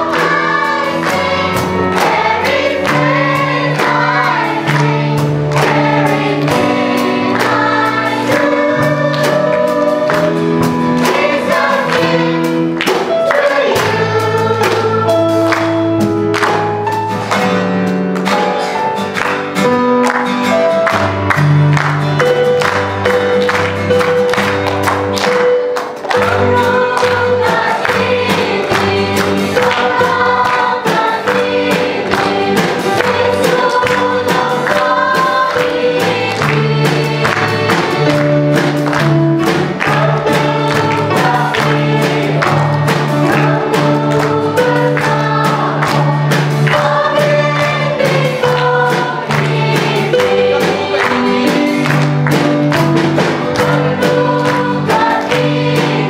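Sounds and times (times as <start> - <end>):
children's choir singing: 0.0 - 16.8, 20.5 - 56.0
instrumental backing with beat: 0.0 - 56.0.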